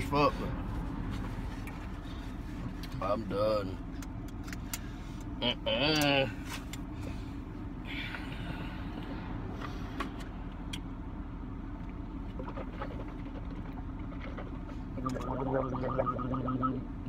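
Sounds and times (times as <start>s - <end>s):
low hum inside truck cab: 0.0s - 17.0s.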